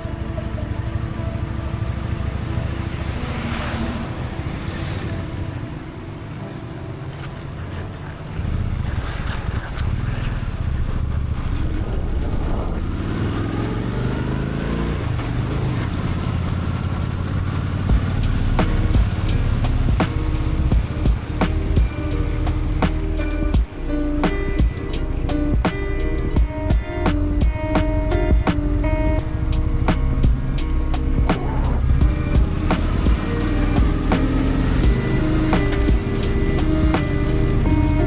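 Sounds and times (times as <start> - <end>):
motorcycle engine running: 0.0 - 6.7, 8.4 - 38.0.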